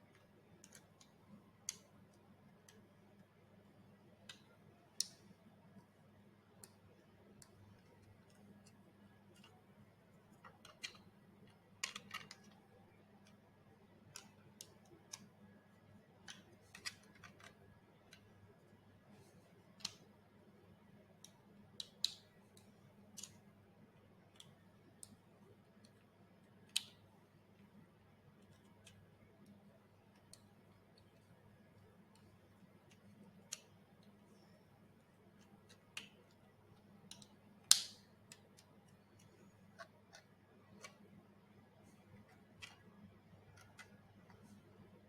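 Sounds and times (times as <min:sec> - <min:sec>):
faint low hum: 0:00.0 - 0:45.0
plastic parts clicking and tapping: 0:00.1 - 0:27.8, 0:28.4 - 0:41.2, 0:41.8 - 0:45.0.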